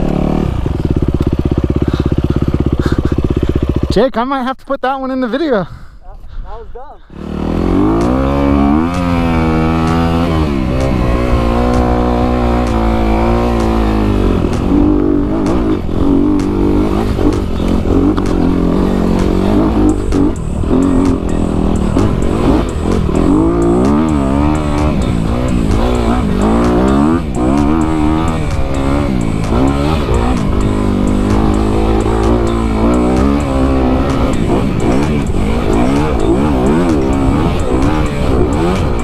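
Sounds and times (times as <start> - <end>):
dirt bike engine revving: 0.0 - 4.1, 7.1 - 39.0.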